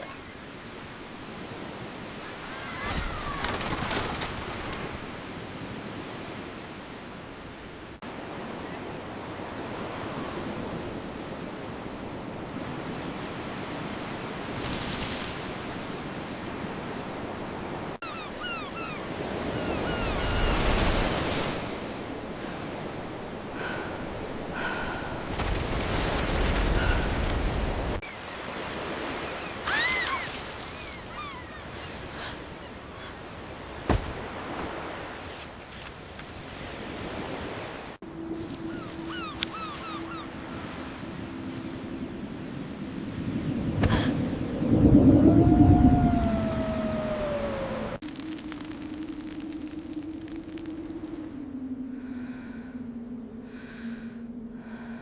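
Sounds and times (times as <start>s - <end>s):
wind: 0.0s - 55.0s.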